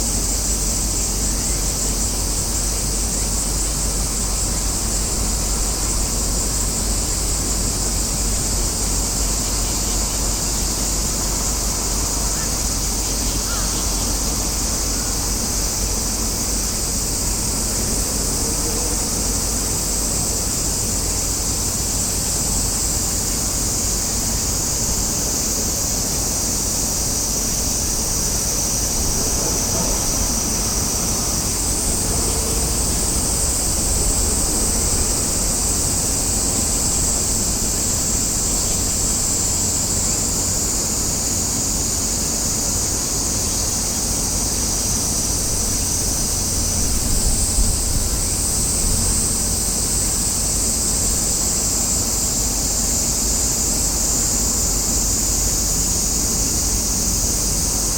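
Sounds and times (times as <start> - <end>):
high-pitched hiss: 0.0 - 57.9.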